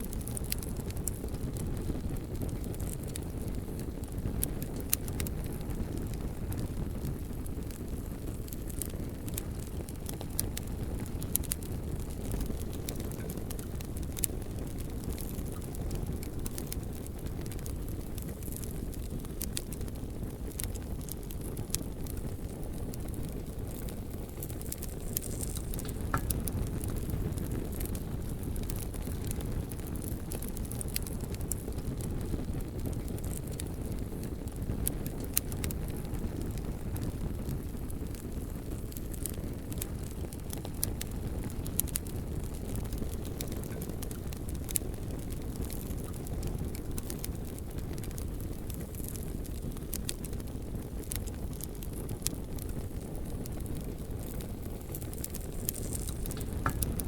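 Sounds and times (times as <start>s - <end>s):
fire crackles and pops: 0.0s - 57.0s
low rush of flames: 0.0s - 57.0s.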